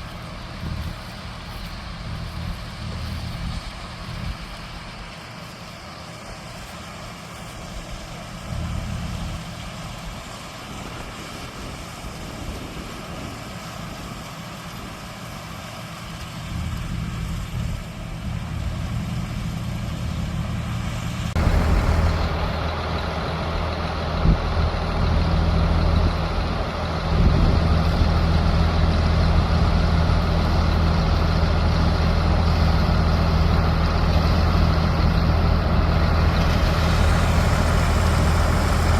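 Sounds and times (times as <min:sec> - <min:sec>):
large diesel engine running: 0:00.0 - 0:38.9.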